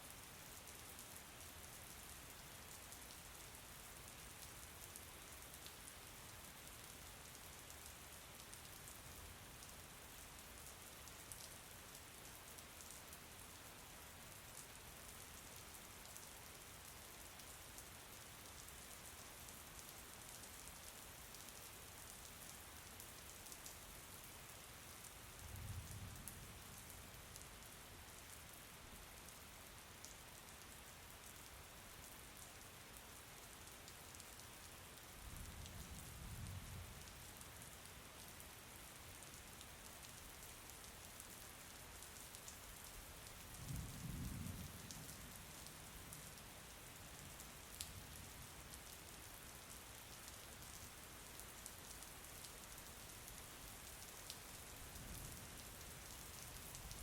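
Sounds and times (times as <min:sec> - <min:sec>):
faint rain falling: 0:00.0 - 0:57.0.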